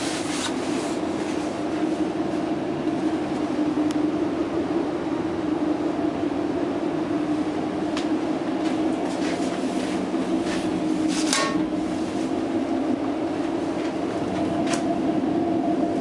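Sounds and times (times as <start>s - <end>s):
train carriage hum: 0.0s - 16.0s.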